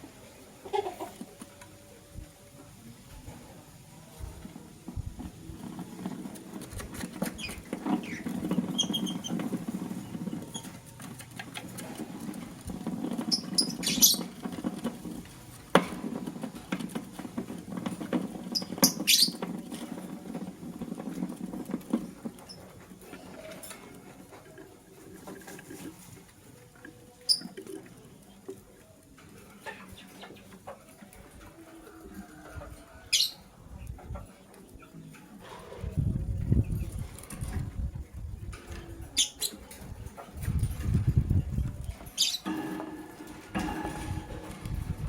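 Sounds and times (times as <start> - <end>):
birds pecking at food: 4.2 - 45.0.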